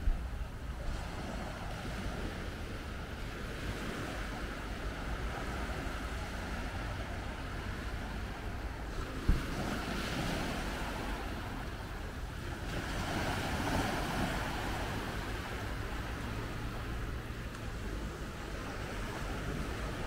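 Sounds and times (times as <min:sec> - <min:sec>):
small waves breaking on shore: 0:00.0 - 0:20.0
wind rumbling on microphone: 0:00.0 - 0:20.0.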